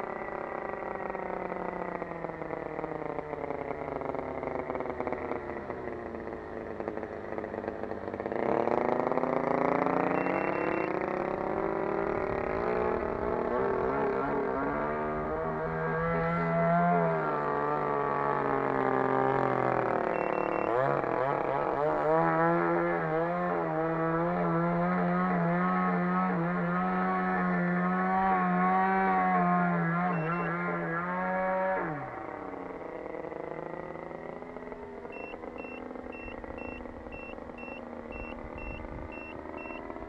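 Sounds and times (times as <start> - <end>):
model airplane engine running: 0.0 - 40.0.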